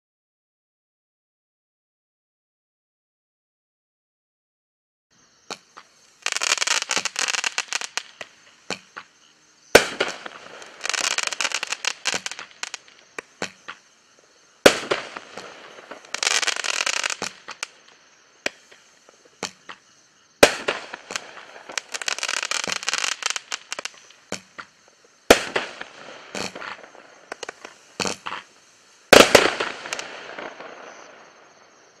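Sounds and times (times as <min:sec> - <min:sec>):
firework bangs: 0:05.5 - 0:13.8, 0:14.6 - 0:31.9
firework crackling: 0:05.5 - 0:32.0.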